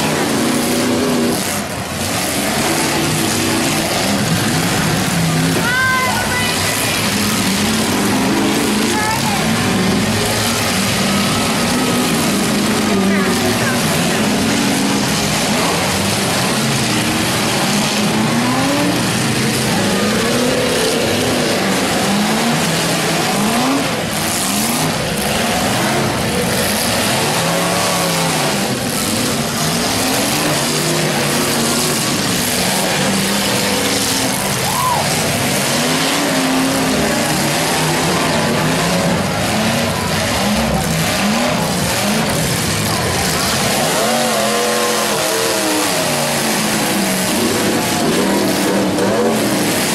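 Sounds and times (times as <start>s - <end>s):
car engines revving: 0.0s - 49.9s
tires spinning: 0.0s - 49.9s.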